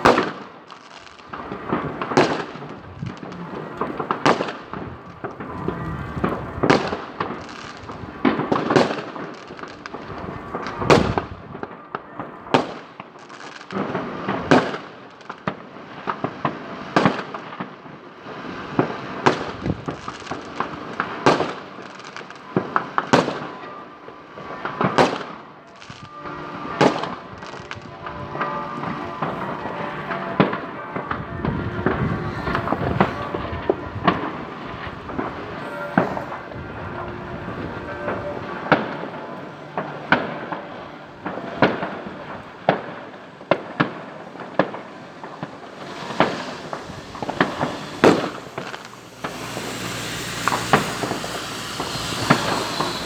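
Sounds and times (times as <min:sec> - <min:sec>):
firecrackers crackling: 0:00.0 - 0:53.0
loud firework bangs: 0:00.0 - 0:53.0.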